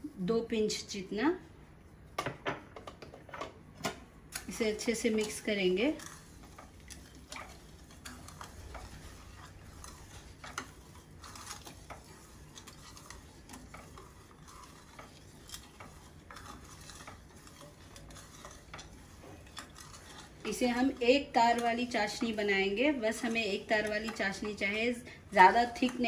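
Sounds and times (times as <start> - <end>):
water swishing in a pan: 4.1 - 26.0
sugar scraping on pan bottom: 4.3 - 26.0.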